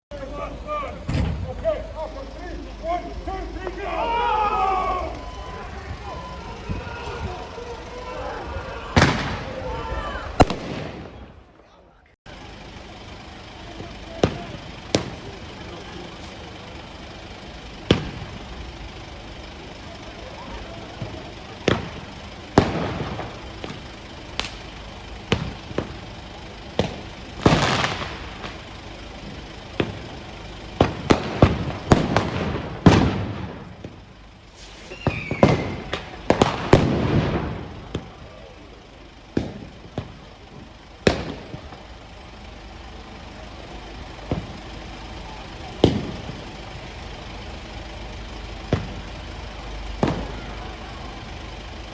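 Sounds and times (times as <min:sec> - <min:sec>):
fireworks exploding: 0:00.2 - 0:11.6, 0:12.4 - 0:51.9.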